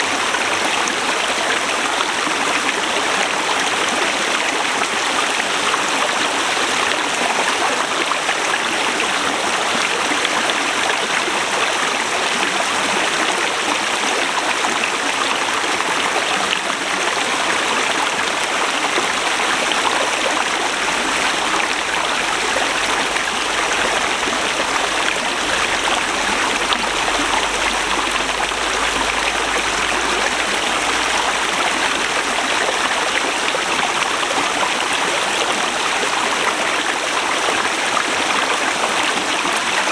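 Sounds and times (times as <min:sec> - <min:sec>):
river rushing: 0:06.9 - 0:39.9.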